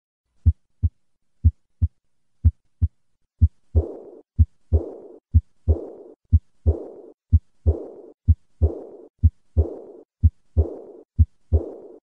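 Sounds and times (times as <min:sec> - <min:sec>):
heartbeat: 0:00.4 - 0:12.0.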